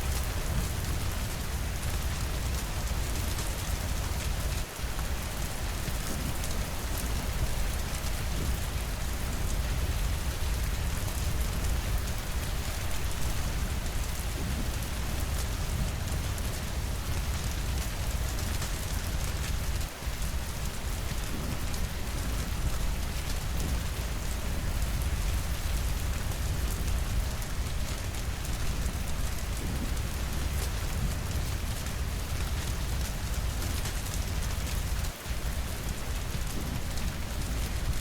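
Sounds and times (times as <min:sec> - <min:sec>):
heavy rainfall: 0:00.0 - 0:38.0.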